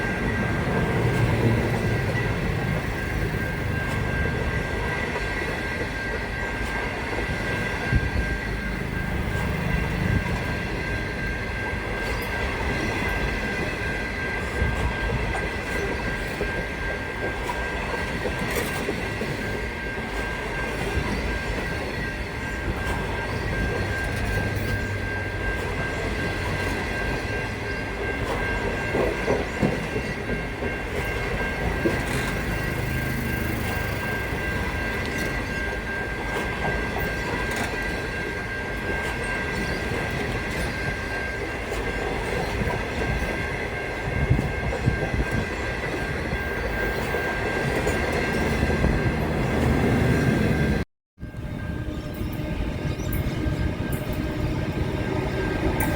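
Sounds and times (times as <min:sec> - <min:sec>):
train high-pitched whine: 0:00.0 - 0:55.9.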